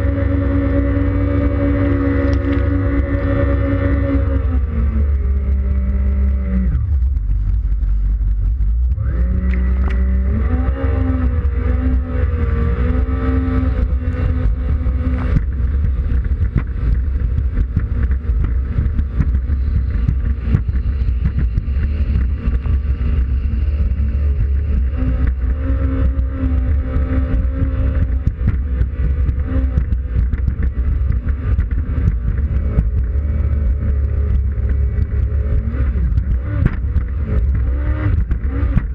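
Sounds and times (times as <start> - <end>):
heavy low rumble: 0.0 - 38.9
watercraft engine revving: 0.0 - 38.9.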